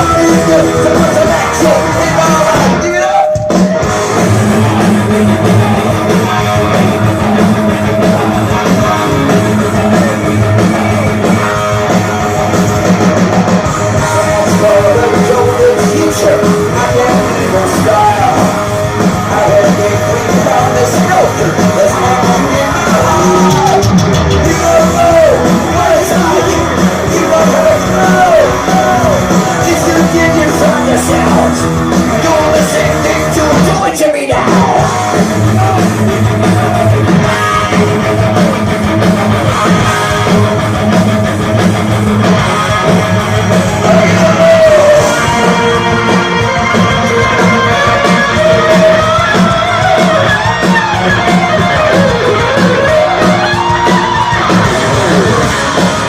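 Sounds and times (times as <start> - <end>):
person singing: 0.0 - 40.6, 42.4 - 56.0
heavy metal band playing live: 0.0 - 56.0.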